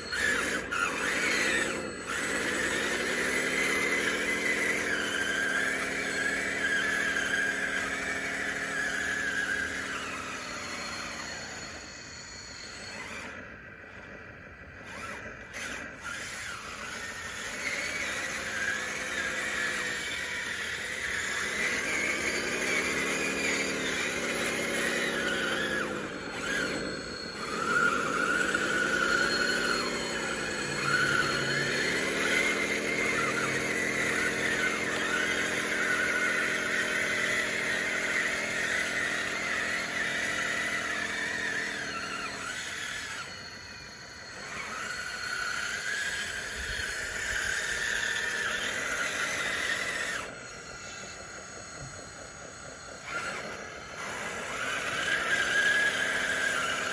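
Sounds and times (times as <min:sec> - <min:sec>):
running gear squeal: 0:00.0 - 0:14.1, 0:14.8 - 0:56.9
electric motors whining: 0:00.0 - 0:56.9.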